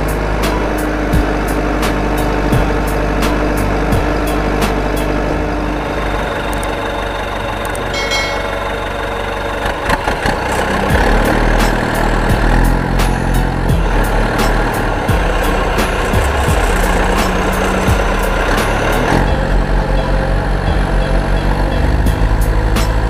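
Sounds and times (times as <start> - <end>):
engine idling rumble: 0.0 - 23.0.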